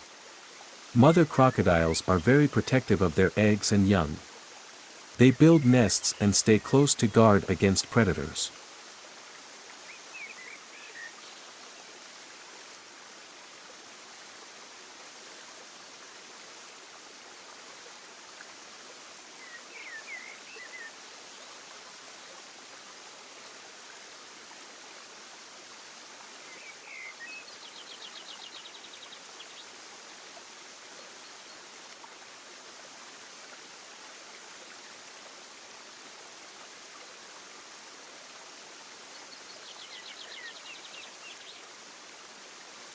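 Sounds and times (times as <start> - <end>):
running water rushing: 0.0 - 42.9.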